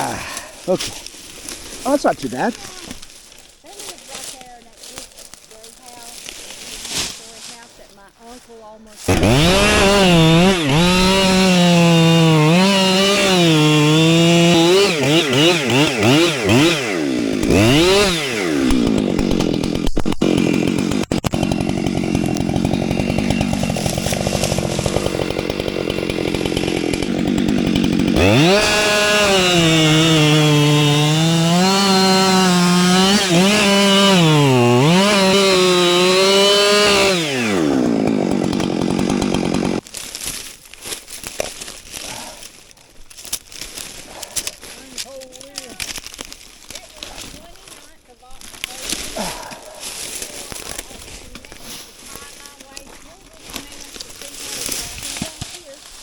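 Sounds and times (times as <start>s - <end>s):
chainsaw cutting wood: 9.0s - 56.0s.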